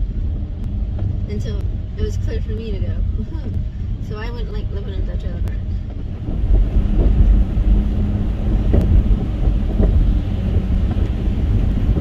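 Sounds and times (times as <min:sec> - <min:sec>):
car driving on wet road: 0:00.0 - 0:12.0
wind buffeting microphone: 0:00.0 - 0:12.0.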